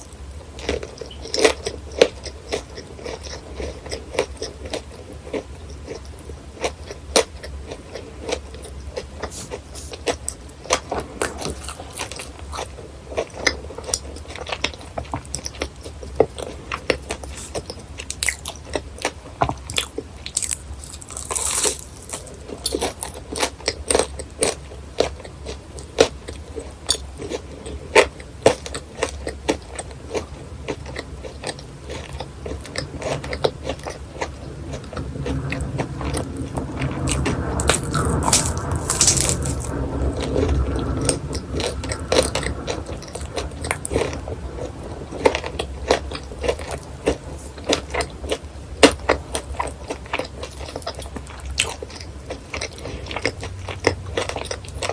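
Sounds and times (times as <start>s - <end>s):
crunchy food chewing: 0.0s - 54.9s.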